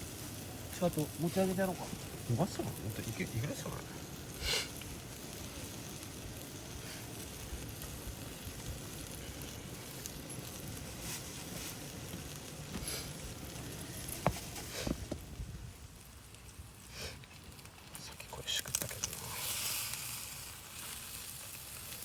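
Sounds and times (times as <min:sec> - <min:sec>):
meat sizzling on a grill: 0:00.0 - 0:22.0.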